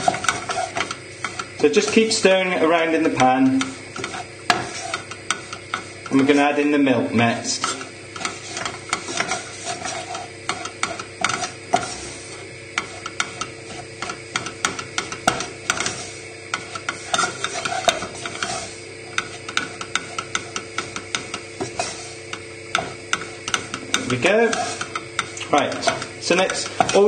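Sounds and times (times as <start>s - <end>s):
wooden spoon scraping a saucepan: 0.0s - 27.0s.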